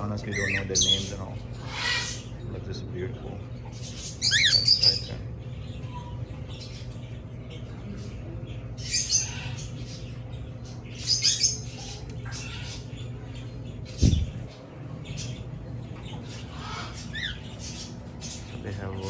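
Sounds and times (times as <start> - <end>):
parrots squawking: 0.0 - 19.0
steady low hum: 0.0 - 19.0.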